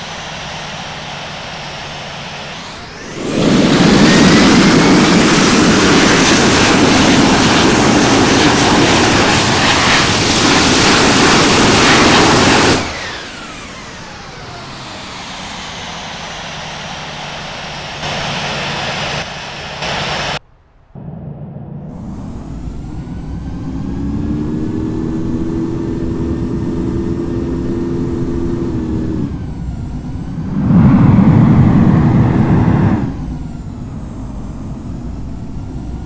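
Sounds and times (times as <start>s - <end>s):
jet engines roaring: 0.0s - 36.0s
jet engines spooling down: 0.0s - 36.0s.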